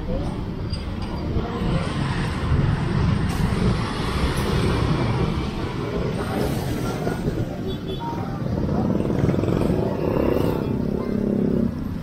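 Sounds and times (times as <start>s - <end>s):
motorcycles and cars passing: 1.3s - 12.0s.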